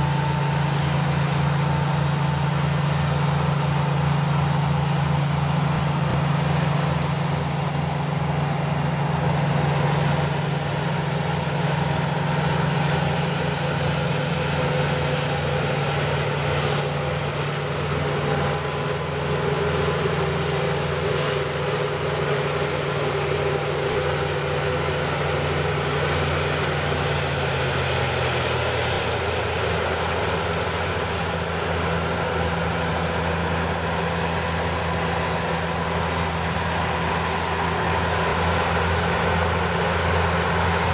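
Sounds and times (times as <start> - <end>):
combine harvester droning: 0.0 - 40.9
crickets chirping: 0.1 - 40.9.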